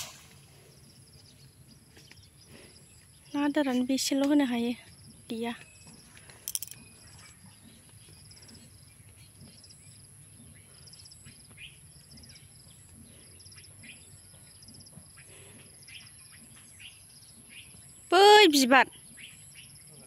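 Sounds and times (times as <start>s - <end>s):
faint crickets chirping: 0.0s - 20.0s.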